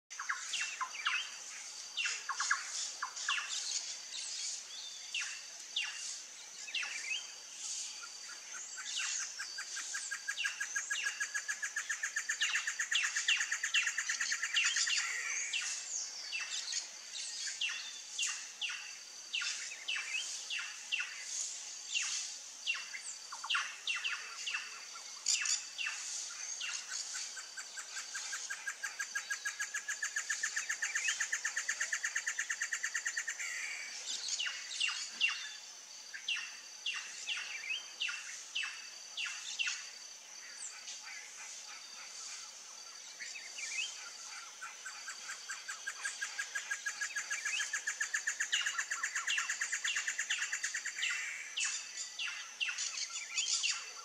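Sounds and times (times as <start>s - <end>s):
steady high-pitched whine: 0.1s - 54.0s
wild birds chirping and whistling: 0.1s - 54.0s.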